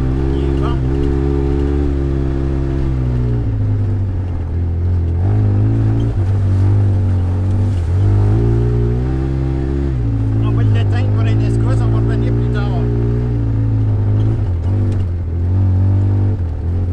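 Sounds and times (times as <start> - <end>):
off-road vehicle engine running: 0.0 - 16.9.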